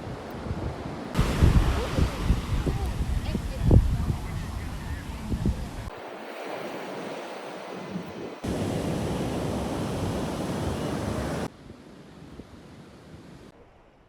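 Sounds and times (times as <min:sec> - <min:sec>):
wind buffeting microphone: 0:00.0 - 0:11.5
surf washing onto beach: 0:00.0 - 0:13.7.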